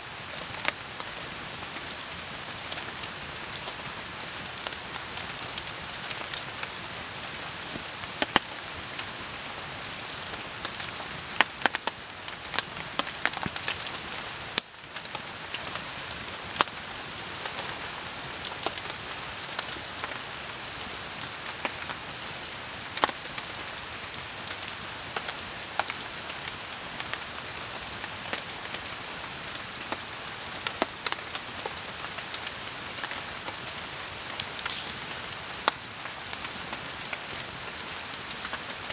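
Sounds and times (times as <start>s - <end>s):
rain hissing: 0.0s - 38.9s
river running: 0.0s - 38.9s
campfire crackling and popping: 0.3s - 22.0s, 22.8s - 27.4s, 29.8s - 38.9s.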